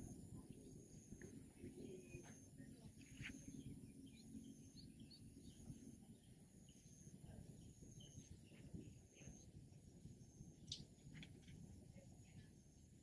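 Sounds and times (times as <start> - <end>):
faint high insect call: 0.0 - 13.0.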